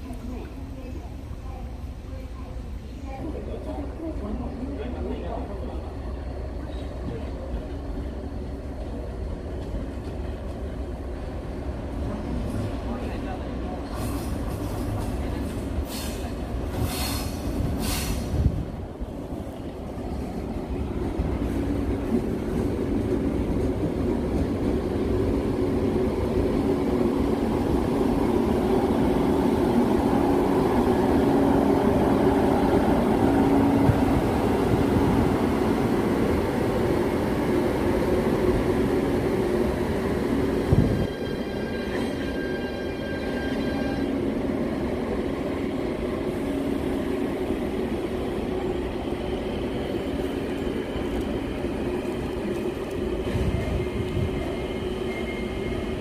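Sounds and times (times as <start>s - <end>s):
wheels rumbling on rails: 6.6s - 56.0s.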